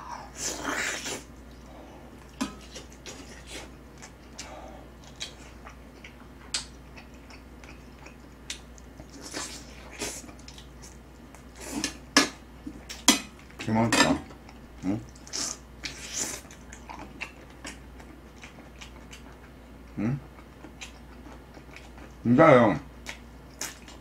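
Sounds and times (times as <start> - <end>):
close chewing with wet mouth sounds: 0.7 - 22.3, 22.9 - 24.0.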